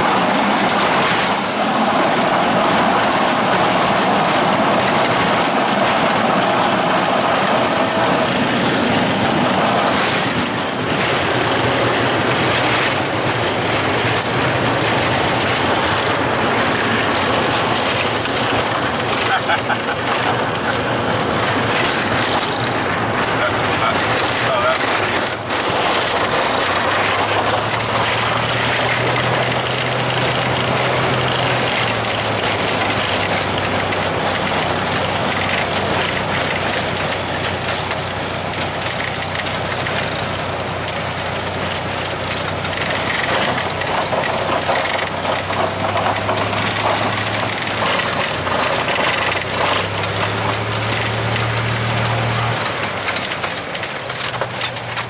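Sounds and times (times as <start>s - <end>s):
low engine hum: 0.0s - 55.0s
tyre and gravel road noise: 0.0s - 55.0s.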